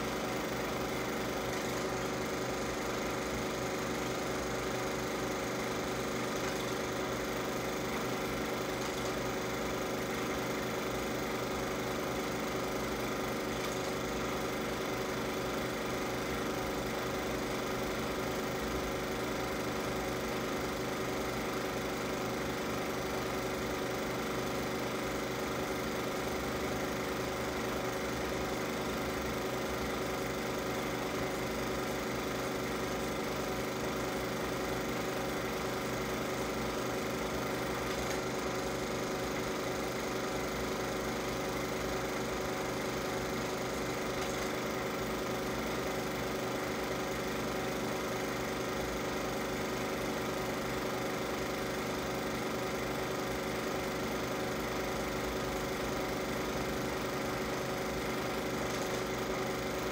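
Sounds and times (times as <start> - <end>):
film projector whirring: 0.0 - 59.9.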